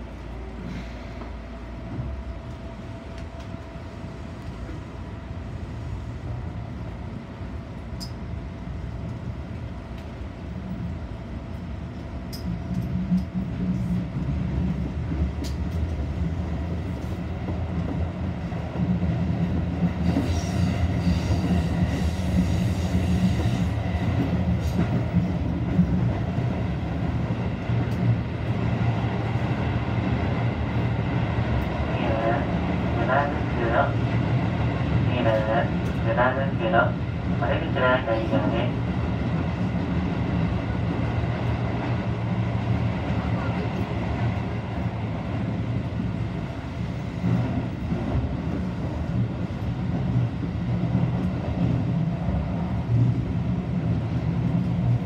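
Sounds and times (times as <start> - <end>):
train wheel and motor rumbling: 0.0 - 55.0.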